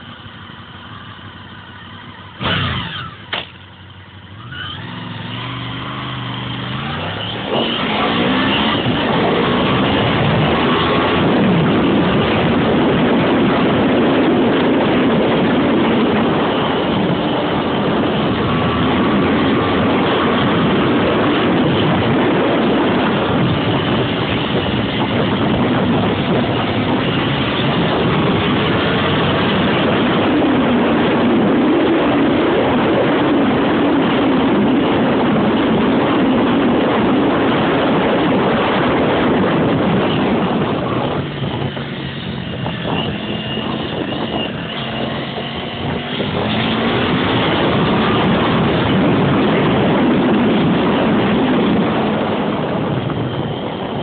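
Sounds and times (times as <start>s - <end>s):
motorcycle engine: 0.0s - 54.0s
wind rush on microphone: 0.0s - 54.0s.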